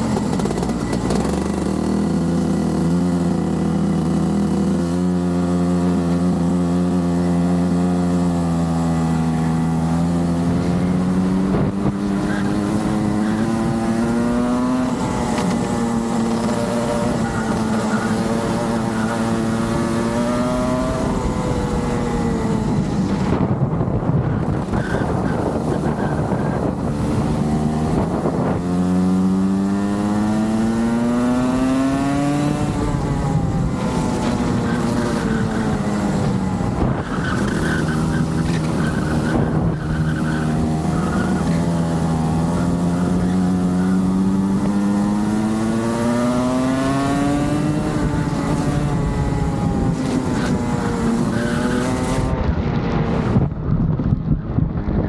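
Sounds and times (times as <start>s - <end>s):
kart engine running hard: 0.0s - 55.0s
wind noise on microphone: 10.2s - 55.0s.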